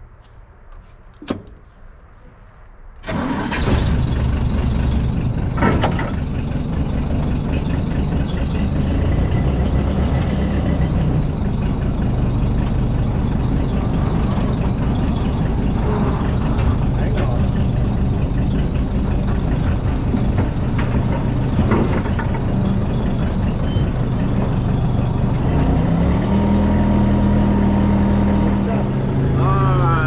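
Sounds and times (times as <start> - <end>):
diesel engine starting and running: 3.0 - 30.0.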